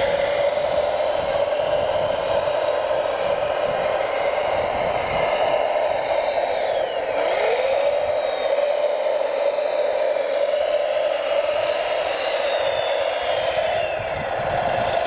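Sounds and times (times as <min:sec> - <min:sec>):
motor and hydraulic pump whine: 0:00.0 - 0:15.0.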